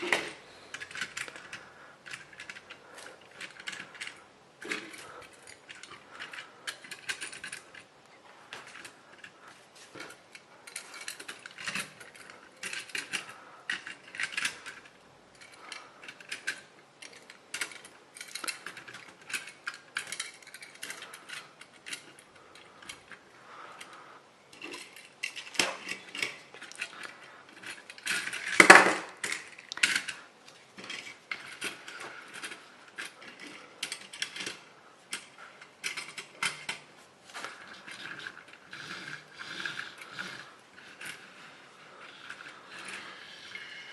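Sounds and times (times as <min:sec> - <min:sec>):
toy parts clicking and clattering: 0:00.0 - 0:43.9.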